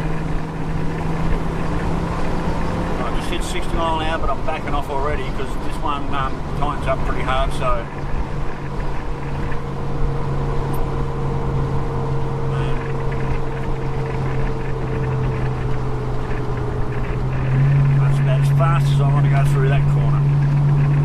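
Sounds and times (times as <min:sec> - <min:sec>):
car engine hum: 0:00.0 - 0:21.0
road noise inside car: 0:00.0 - 0:21.0.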